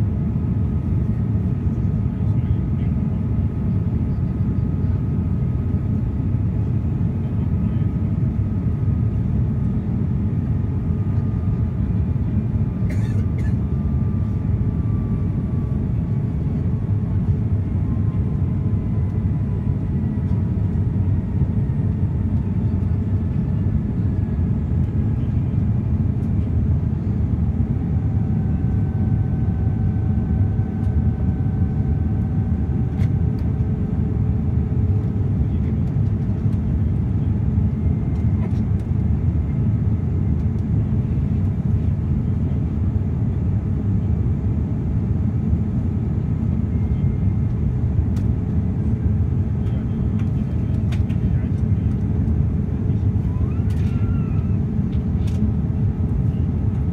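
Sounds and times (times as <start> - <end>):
airliner engine and airflow rumble: 0.0 - 56.9
faint engine tones: 0.2 - 56.9.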